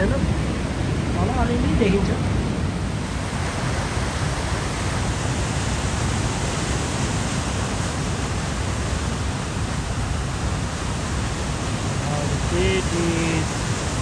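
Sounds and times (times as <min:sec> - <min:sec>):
flooded creek water rushing: 0:00.0 - 0:14.0.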